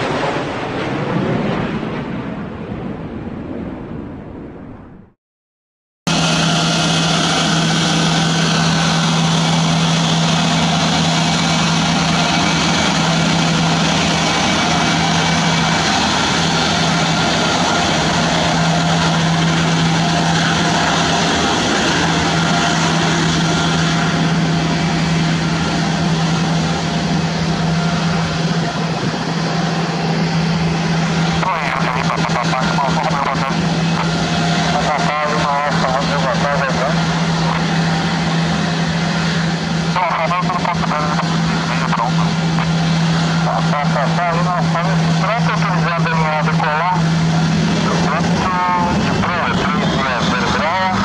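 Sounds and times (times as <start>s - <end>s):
jet engines running: 0.0s - 3.2s, 6.1s - 51.0s.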